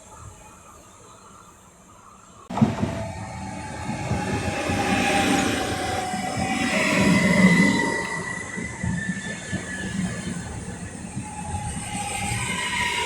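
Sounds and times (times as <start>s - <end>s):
train rumble on rails: 0.0s - 13.0s
train wheels squealing: 0.0s - 13.0s.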